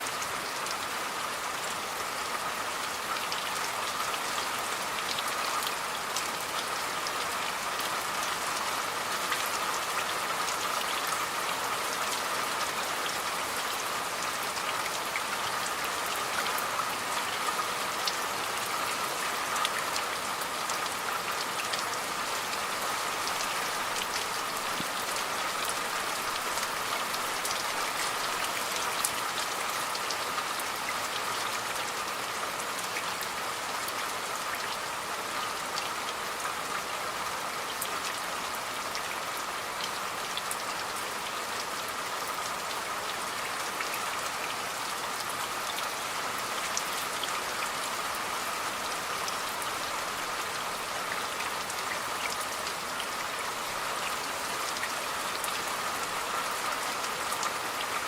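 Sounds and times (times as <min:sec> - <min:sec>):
rain drops ticking on surface: 0:00.0 - 0:58.0
rain hiss: 0:00.0 - 0:58.0.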